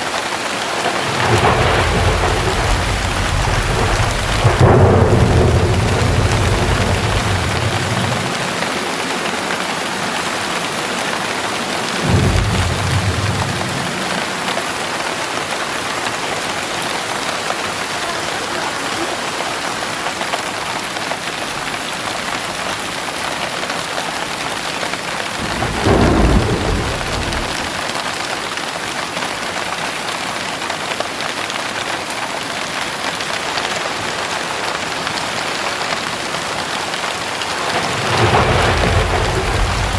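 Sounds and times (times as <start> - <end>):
heavy rain falling: 0.0 - 39.9
thunder rumbling: 0.7 - 23.2, 24.2 - 28.2, 33.9 - 39.9.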